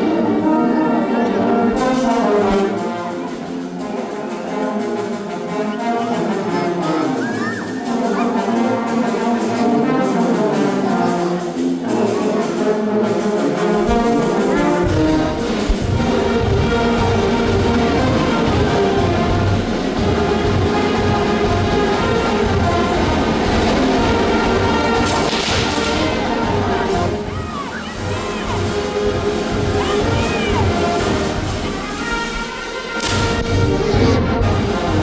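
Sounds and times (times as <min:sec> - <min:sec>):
brass band playing: 0:00.0 - 0:35.0.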